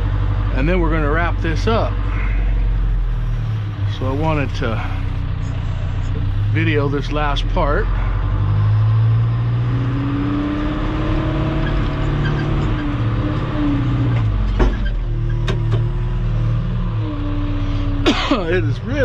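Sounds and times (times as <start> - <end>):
heavy equipment engine running: 0.0 - 19.0.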